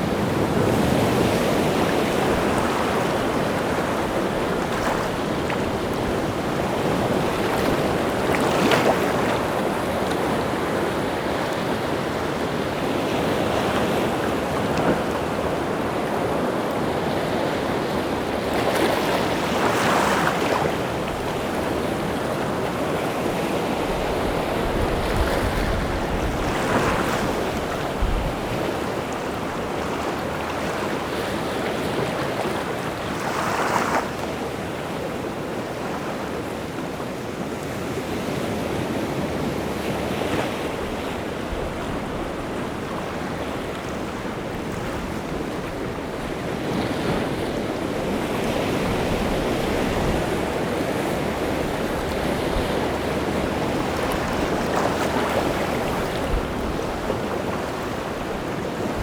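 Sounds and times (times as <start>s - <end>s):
sea surf breaking on shore: 0.0s - 59.0s.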